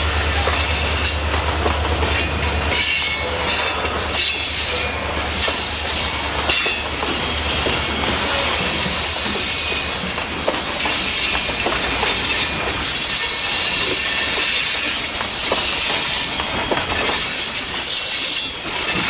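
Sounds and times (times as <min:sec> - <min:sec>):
train wheels clattering on rails: 0:00.0 - 0:19.0
steel wheel squeals: 0:02.0 - 0:19.0.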